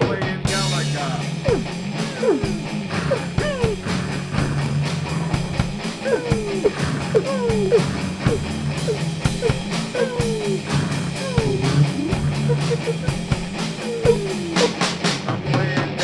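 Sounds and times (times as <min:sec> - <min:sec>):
drum beat: 0:00.5 - 0:16.0.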